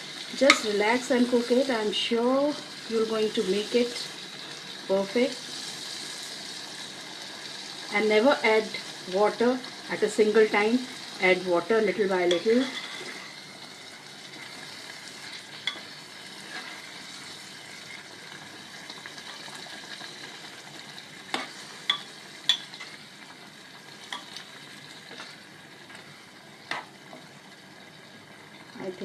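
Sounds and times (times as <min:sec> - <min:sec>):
meat sizzling in a pot: 0:00.0 - 0:29.0.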